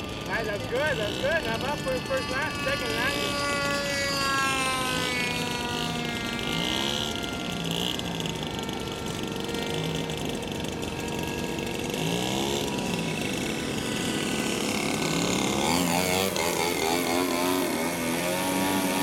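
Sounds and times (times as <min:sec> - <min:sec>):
model airplane engine buzzing: 0:00.0 - 0:19.0.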